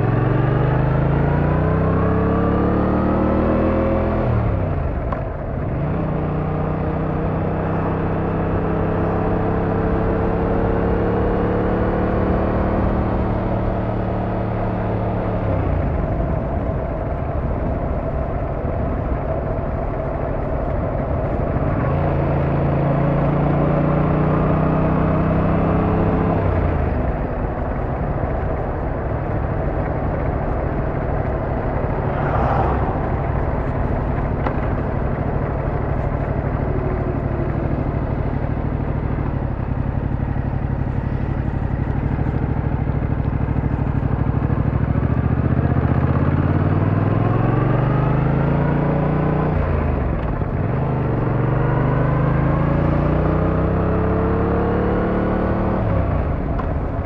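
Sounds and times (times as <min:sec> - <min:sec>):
road noise: 0:00.0 - 0:57.0
vehicle engine: 0:00.0 - 0:57.0.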